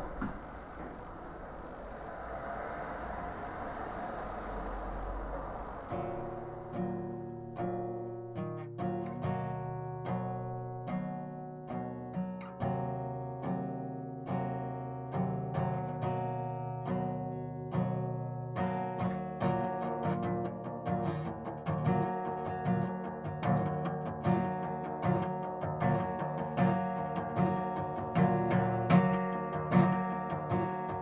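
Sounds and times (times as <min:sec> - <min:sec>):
acoustic guitar picking: 0:05.9 - 0:31.0.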